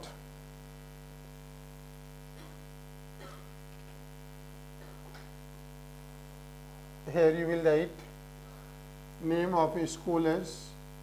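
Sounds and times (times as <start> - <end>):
faint electrical mains hum: 0.0 - 11.0.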